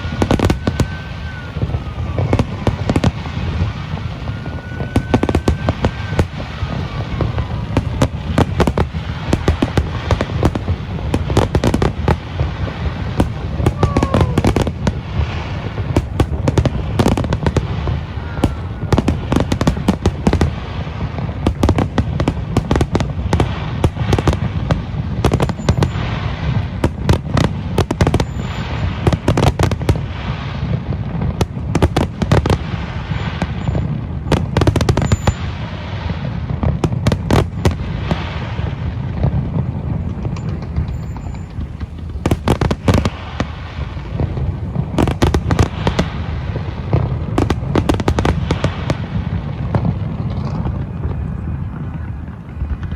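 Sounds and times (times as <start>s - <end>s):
fireworks bangs and crackles: 0.0s - 52.9s
low rumble of booms: 0.0s - 52.9s.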